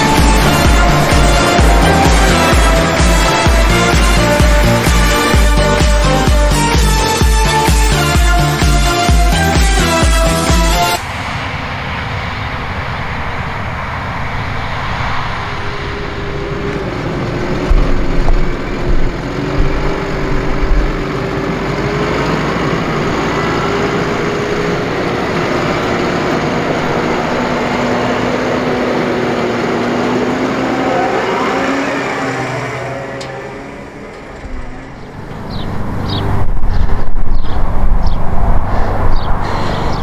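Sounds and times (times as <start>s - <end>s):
low buffeting thuds: 0.0s - 11.6s, 15.5s - 30.6s, 33.2s - 40.0s
tractor engine droning: 0.0s - 40.0s.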